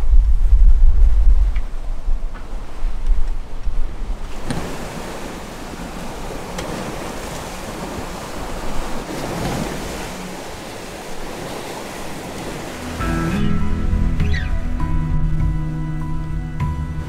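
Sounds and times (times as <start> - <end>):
water rushing along hulls: 0.0 - 17.0
wind: 0.0 - 17.0.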